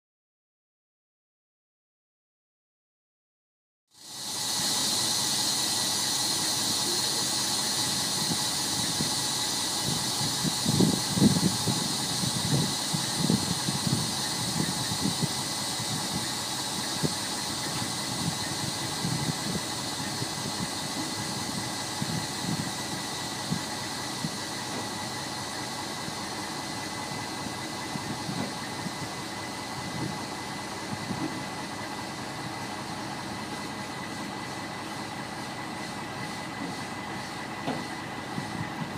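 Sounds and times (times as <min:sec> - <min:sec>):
air suspension hissing: 0:04.0 - 0:38.9
truck engine idling: 0:04.0 - 0:38.9.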